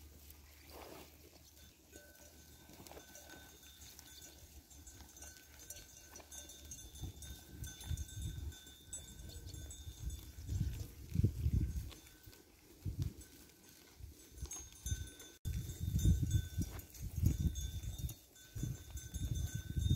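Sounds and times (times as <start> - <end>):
sheep cropping grass: 0.0 - 17.6
hooves shifting: 0.0 - 19.9.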